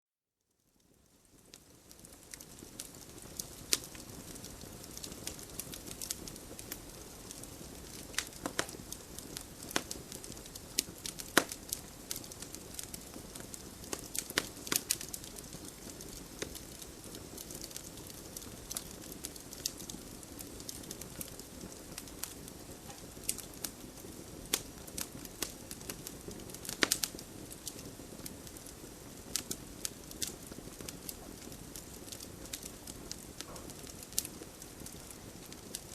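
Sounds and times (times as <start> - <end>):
campfire crackling and popping: 0.8 - 35.9
hiss of burning wood: 0.8 - 35.9.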